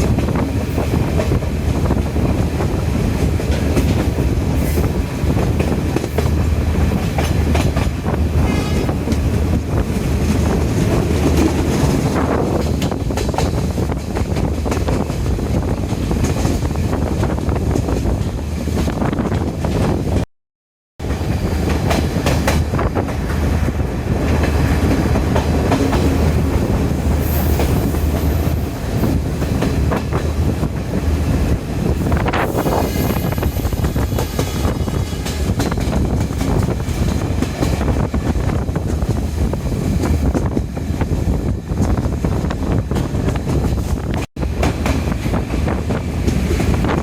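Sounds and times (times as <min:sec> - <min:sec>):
train rumbling along track: 0:00.0 - 0:20.3, 0:21.0 - 0:47.0.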